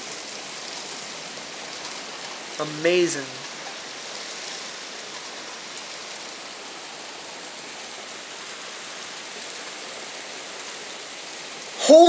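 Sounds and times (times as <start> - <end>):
rain heard through window: 0.0 - 12.0.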